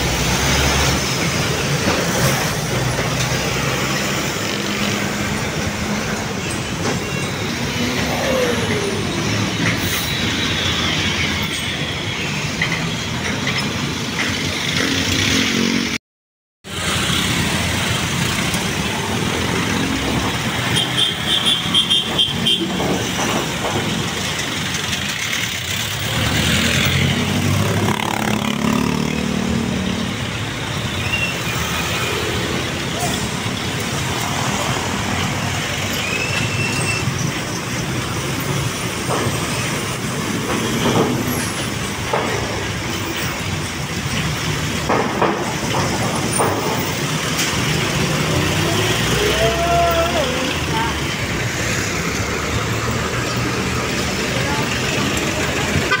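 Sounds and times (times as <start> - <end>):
road traffic passing: 0.0 - 16.0, 16.6 - 56.0.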